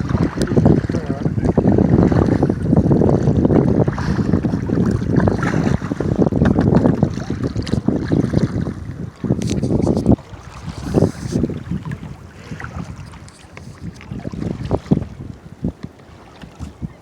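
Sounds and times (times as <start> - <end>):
water lapping around kayak: 0.0 - 17.0
wind buffeting microphone: 0.0 - 17.0.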